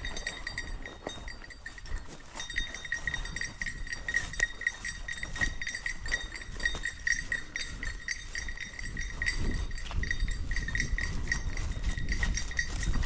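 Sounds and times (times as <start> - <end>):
small metal bell clinking: 0.0 - 13.0.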